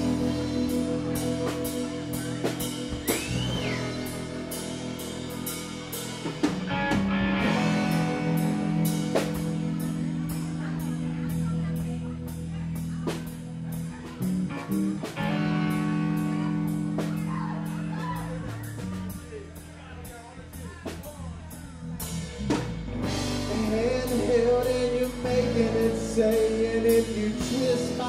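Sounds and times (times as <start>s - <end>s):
drum kit steady beat: 0.0s - 28.0s
guitar holding long notes: 0.0s - 28.0s.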